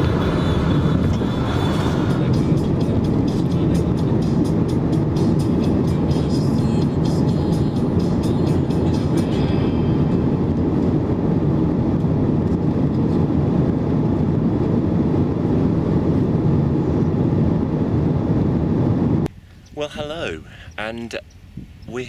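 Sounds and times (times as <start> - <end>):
vehicle rumble: 0.0 - 22.0.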